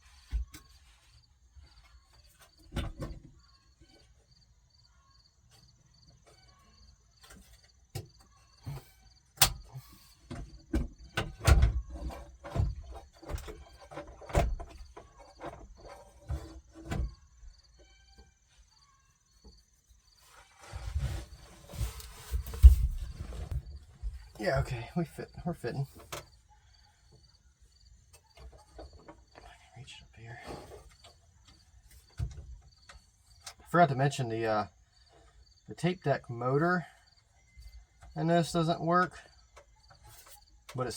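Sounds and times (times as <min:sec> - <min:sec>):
faint insect chirping: 0:00.0 - 0:20.5, 0:22.4 - 0:40.8.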